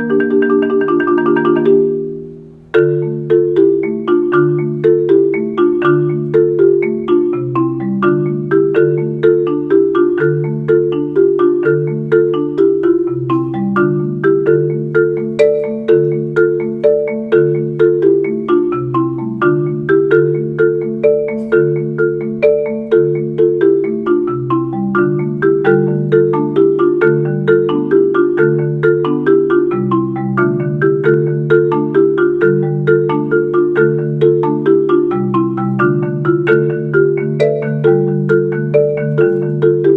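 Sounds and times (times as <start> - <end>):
marimba played with mallets: 0.0 - 39.9.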